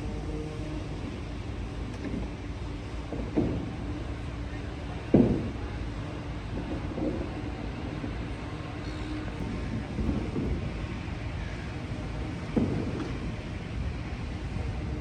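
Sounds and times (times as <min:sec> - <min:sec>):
distant traffic: 0:00.0 - 0:15.0
faint steady hum: 0:00.0 - 0:15.0
wind buffeting microphone: 0:00.0 - 0:15.0.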